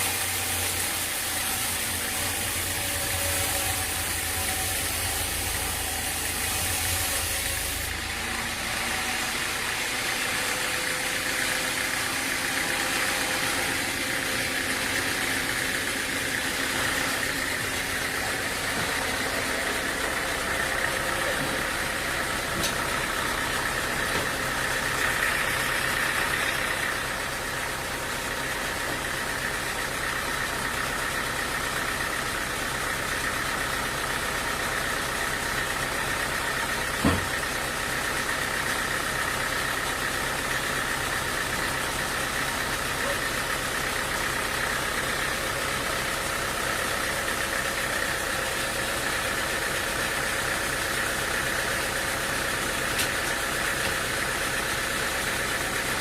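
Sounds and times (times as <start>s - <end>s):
sawmill machinery drone: 0.0s - 56.0s.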